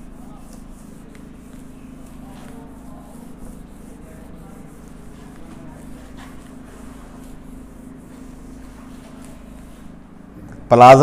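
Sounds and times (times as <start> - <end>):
duster wiping whiteboard: 0.0 - 10.4
low room hum: 0.0 - 11.0.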